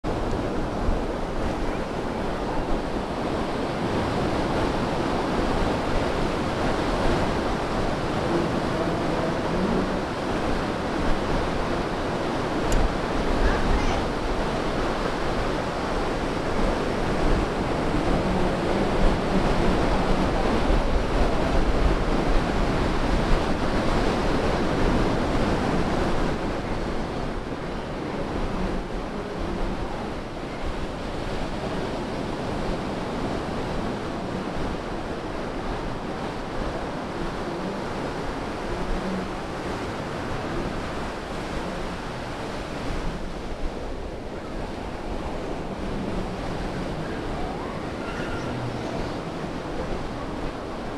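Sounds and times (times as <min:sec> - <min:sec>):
ocean surf breaking: 0:00.0 - 0:50.9.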